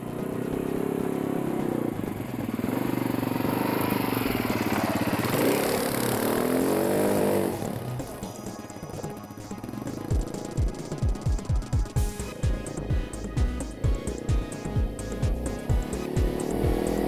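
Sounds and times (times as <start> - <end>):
atv engine revving: 0.0 - 11.3, 12.0 - 17.0.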